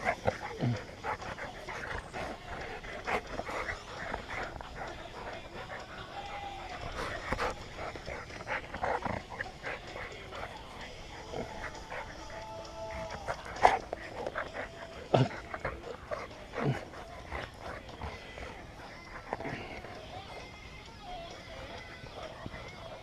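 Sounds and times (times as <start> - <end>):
dogs barking: 0.0 - 23.0
dogs panting: 0.0 - 23.0
dogs scuffling: 0.0 - 23.0
dogs whimpering: 0.0 - 23.0.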